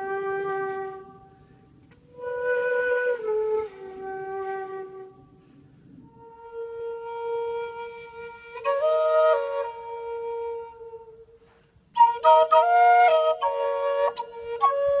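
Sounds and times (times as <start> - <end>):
solo flute melody: 0.0 - 15.0.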